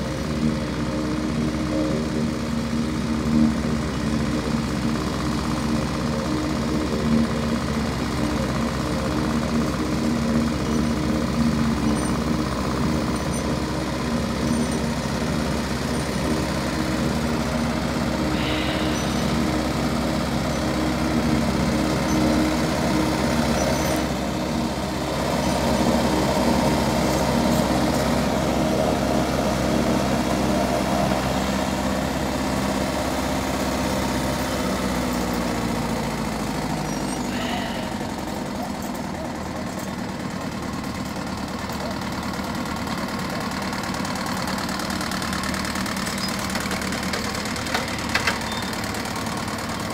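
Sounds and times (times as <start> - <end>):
forage harvester engine running: 0.0 - 49.9.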